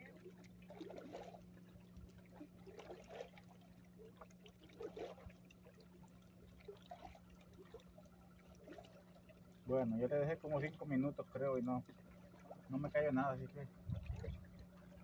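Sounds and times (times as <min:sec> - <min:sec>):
faint low hum: 0:00.0 - 0:15.0
lake water lapping against rocks: 0:00.0 - 0:15.0.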